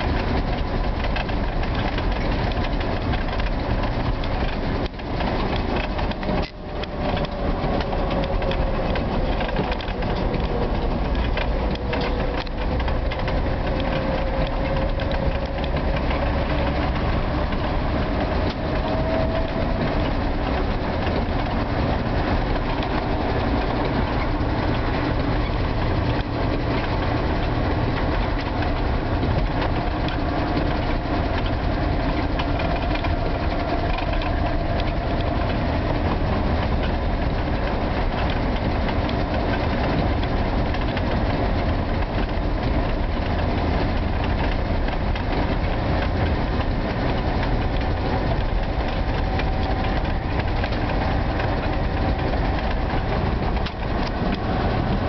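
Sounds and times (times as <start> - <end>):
car driving on snowy road: 0.0 - 55.0.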